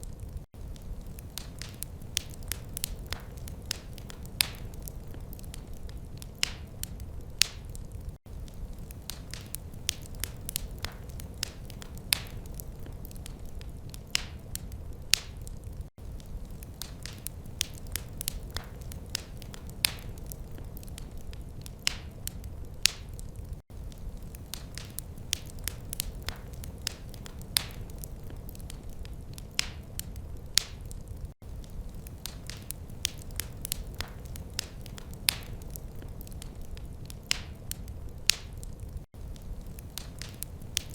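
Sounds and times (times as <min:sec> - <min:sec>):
low rumble of burning fire: 0:00.0 - 0:40.9
wood fire crackling: 0:00.0 - 0:40.9.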